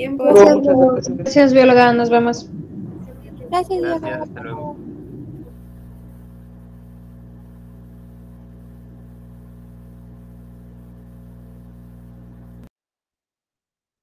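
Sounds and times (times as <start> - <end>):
low electrical hum: 0.0 - 12.7.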